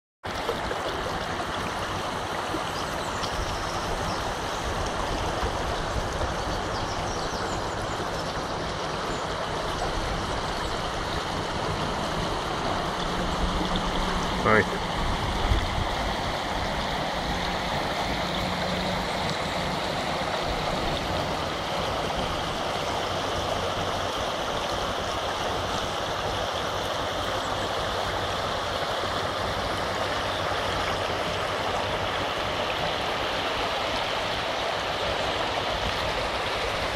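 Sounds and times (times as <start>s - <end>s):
floodwater rushing: 0.2s - 36.9s.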